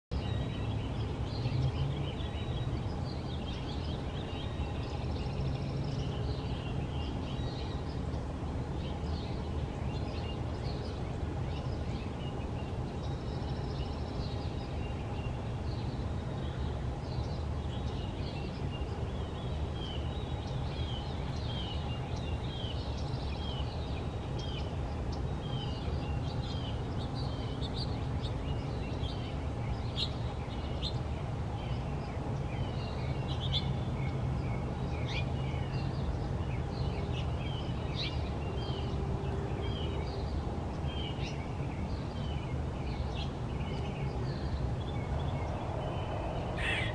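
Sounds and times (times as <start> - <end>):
songbirds chirping: 0.1 - 46.9
low background rumble: 0.2 - 46.9.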